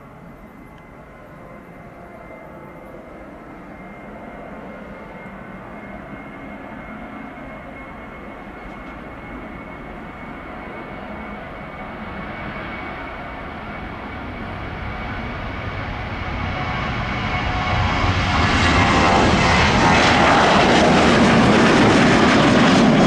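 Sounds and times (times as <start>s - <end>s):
jet engines at takeoff power: 0.0s - 23.0s.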